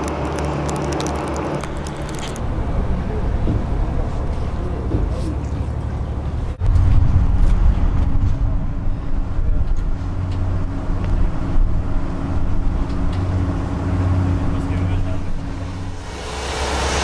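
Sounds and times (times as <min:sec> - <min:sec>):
machinery low drone: 0:00.0 - 0:17.0.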